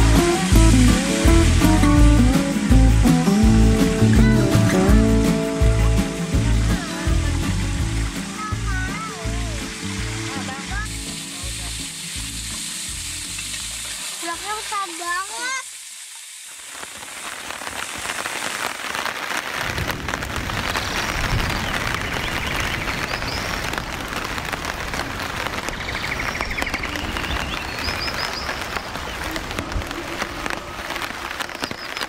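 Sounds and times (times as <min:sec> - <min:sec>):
rain on a tarp: 0:00.0 - 0:32.0.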